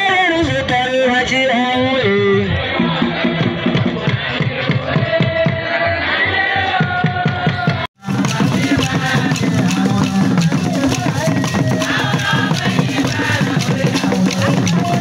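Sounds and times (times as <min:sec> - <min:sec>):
drums and percussion: 0:00.0 - 0:15.0
voices singing: 0:00.0 - 0:15.0.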